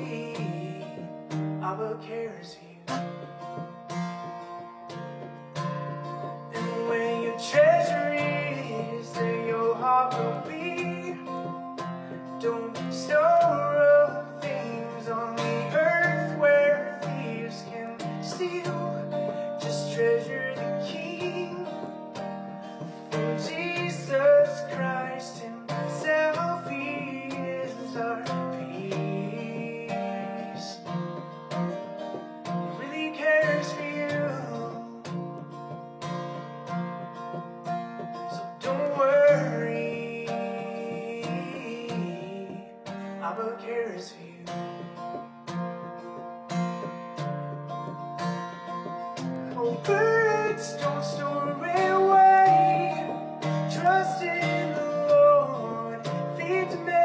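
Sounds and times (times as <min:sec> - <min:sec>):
acoustic guitar music: 0:00.0 - 0:57.0.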